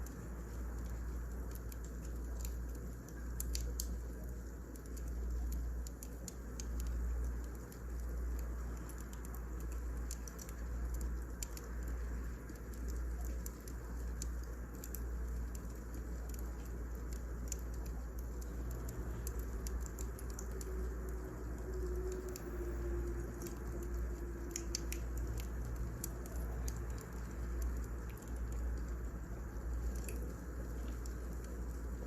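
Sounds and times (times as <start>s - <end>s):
firewood crackling: 0.0s - 32.0s.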